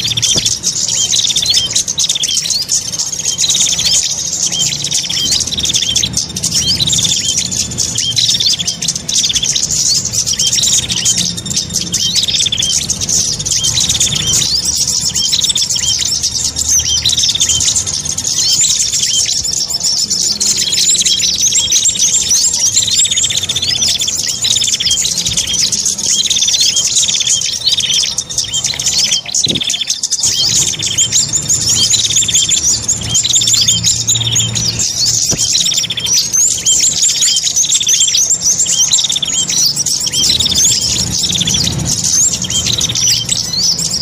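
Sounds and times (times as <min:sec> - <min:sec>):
descending bird chirp: 0:00.0 - 0:44.0
high chattering bird trills: 0:00.0 - 0:44.0.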